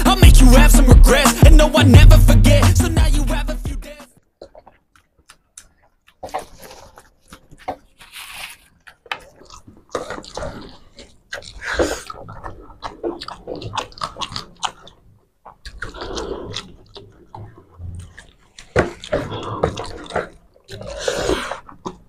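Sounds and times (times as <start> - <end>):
people chewing food: 3.9 - 22.0.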